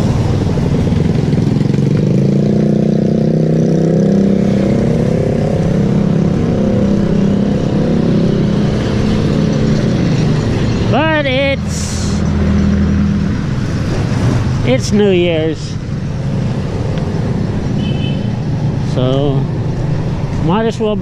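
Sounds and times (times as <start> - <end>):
road noise: 0.0 - 21.0
vehicle engine humming: 0.0 - 21.0.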